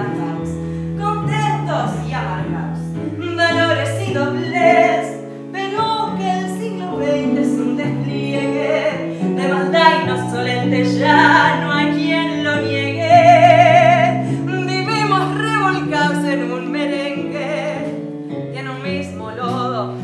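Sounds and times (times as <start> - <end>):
instrumental accompaniment with bass: 0.0 - 20.0
woman singing into microphone: 0.0 - 20.0.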